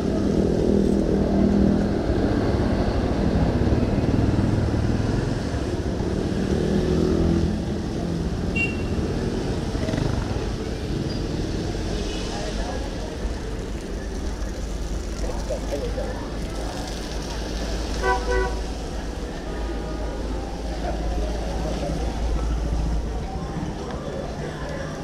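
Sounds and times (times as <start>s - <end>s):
low traffic hum: 0.0s - 25.0s
motorcycle engines passing: 0.1s - 25.0s.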